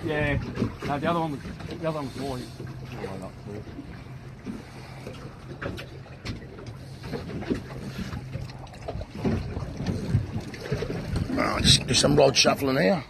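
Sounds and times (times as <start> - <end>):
steady low hum: 0.0 - 13.0
water splashing against boat: 0.0 - 13.0.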